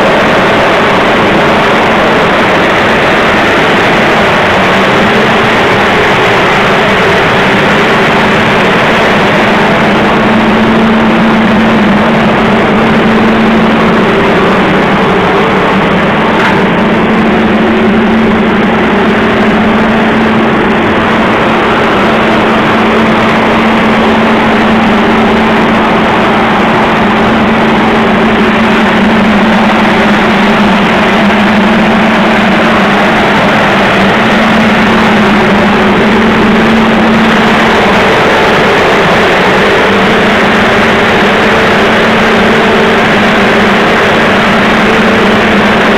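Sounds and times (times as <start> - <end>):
dryer fans droning: 0.0 - 45.9.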